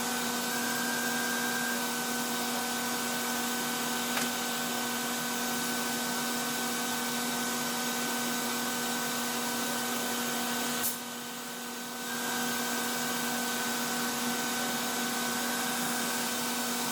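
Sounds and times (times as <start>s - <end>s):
cnc router motor whine: 0.0s - 10.5s, 11.4s - 16.9s.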